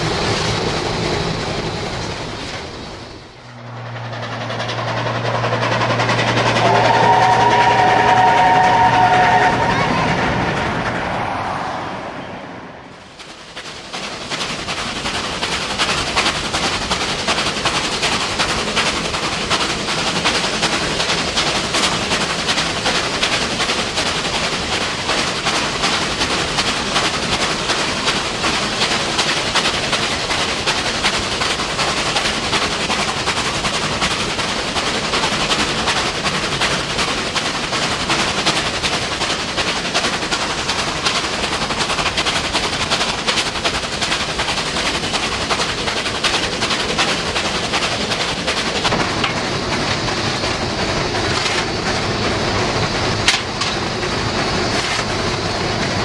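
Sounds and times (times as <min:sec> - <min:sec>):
steam locomotive exhaust beats: 0:00.0 - 0:56.0
train running noise: 0:00.0 - 0:56.0.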